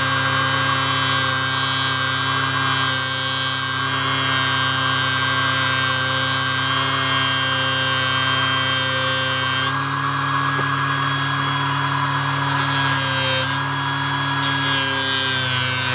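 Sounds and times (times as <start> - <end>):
polishing machine motor hum: 0.0 - 15.9.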